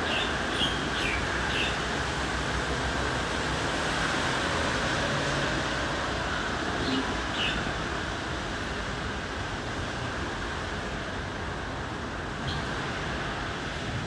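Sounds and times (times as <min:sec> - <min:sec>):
distant city traffic: 0:00.0 - 0:14.0.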